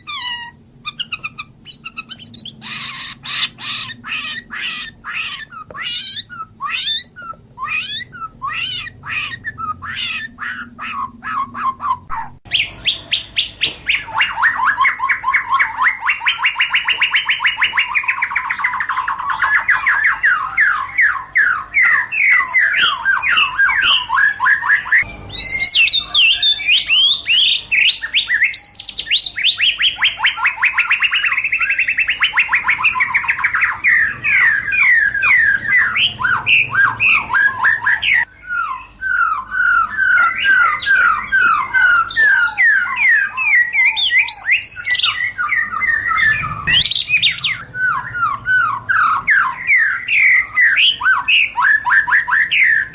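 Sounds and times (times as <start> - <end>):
bird singing rapid sweeping notes: 0.0 - 52.9.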